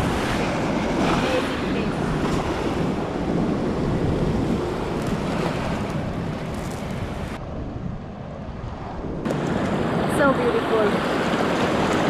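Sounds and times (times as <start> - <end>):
small waves washing on shore: 0.0 - 7.4, 9.3 - 12.0
wind buffeting microphone: 0.0 - 12.0.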